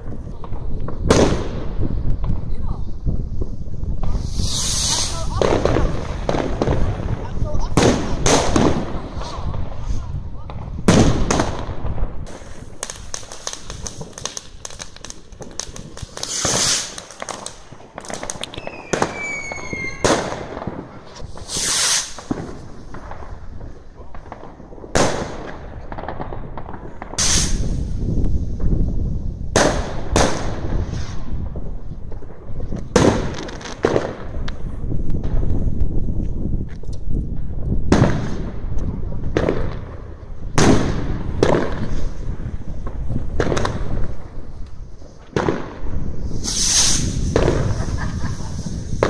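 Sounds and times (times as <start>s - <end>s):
firecracker bangs: 0.0s - 36.6s, 37.3s - 44.6s, 45.2s - 49.0s
whistling firework: 0.0s - 36.6s, 37.4s - 49.0s
fireworks crackling: 0.0s - 49.0s
low rumbling of fireworks: 0.0s - 49.0s.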